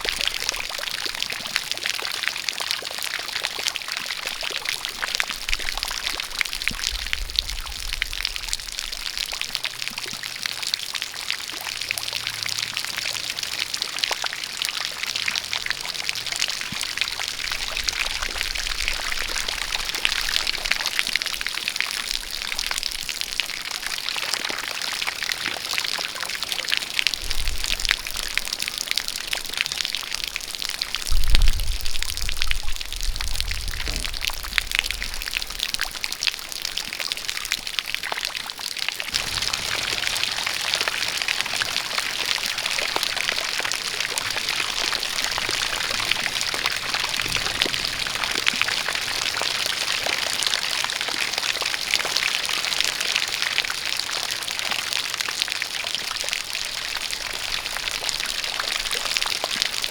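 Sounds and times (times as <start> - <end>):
jet of water pouring and splashing: 0.0 - 59.9
rain falling: 0.0 - 59.9.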